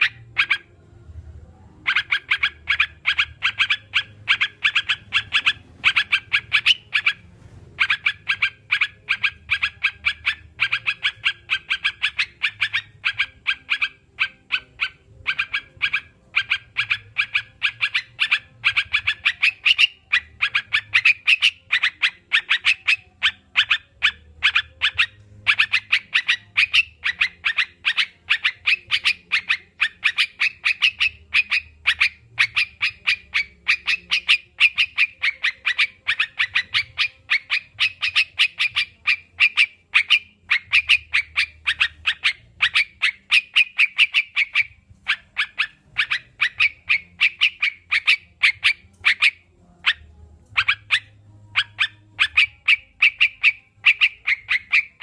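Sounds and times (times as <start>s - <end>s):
bird chirping rapidly: 0.0s - 0.7s, 1.8s - 55.0s.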